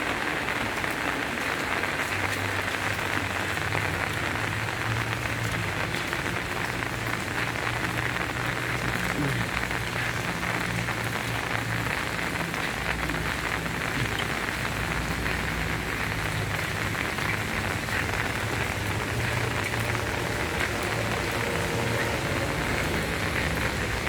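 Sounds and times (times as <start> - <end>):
heavy rain on umbrella: 0.0 - 24.0
splashing water: 0.3 - 24.0.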